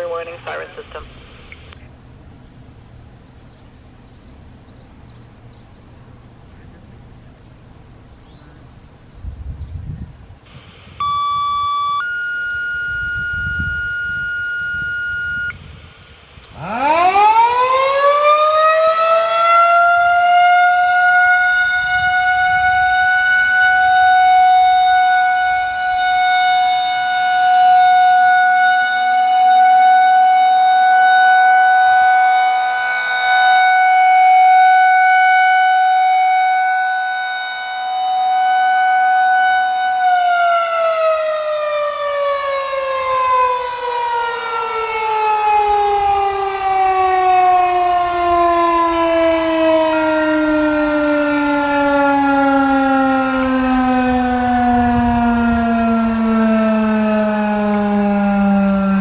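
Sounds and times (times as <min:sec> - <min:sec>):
single-tone siren: 0:10.5 - 0:15.8, 0:16.5 - 0:59.0.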